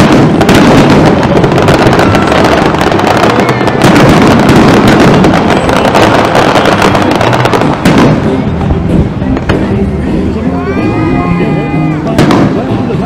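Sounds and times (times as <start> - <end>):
fireworks crackling and popping: 0.0 - 11.0, 11.6 - 13.0.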